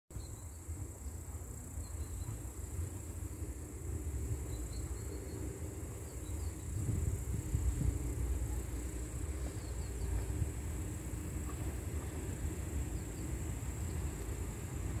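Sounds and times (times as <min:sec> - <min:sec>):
electric train rumbling: 0:00.2 - 0:15.0
insects chirring: 0:00.2 - 0:15.0.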